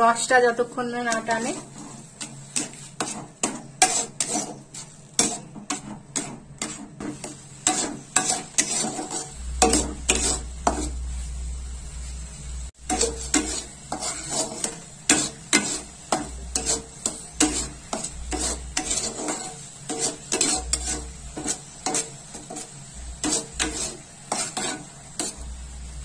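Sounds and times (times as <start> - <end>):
spatula scraping metal pan: 0.0 - 11.1, 12.8 - 25.6.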